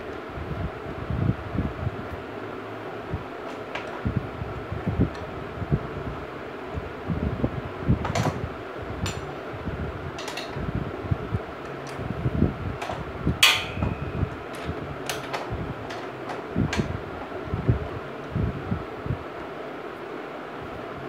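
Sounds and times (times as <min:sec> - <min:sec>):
fan whirring: 0:00.0 - 0:21.0.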